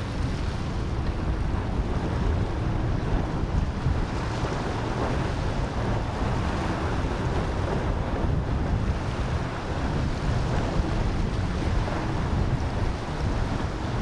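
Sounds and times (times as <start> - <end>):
waves and boat wake rushing: 0.0 - 14.0
wind buffeting microphone: 0.0 - 14.0.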